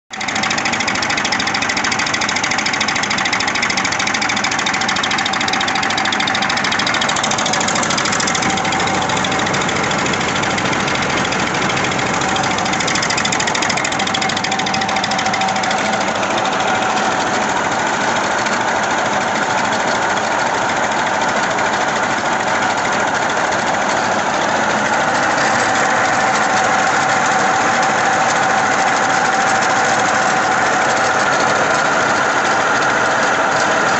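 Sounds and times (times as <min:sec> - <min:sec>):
tractor diesel engine clattering: 0:00.1 - 0:33.9
steady engine whine: 0:00.4 - 0:33.9.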